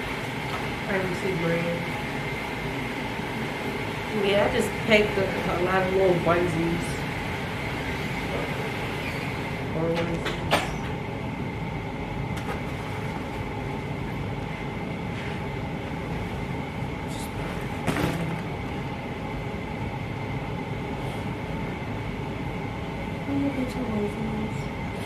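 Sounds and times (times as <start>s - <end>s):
high steady whine: 0.0s - 25.0s
machine hum: 0.0s - 25.0s.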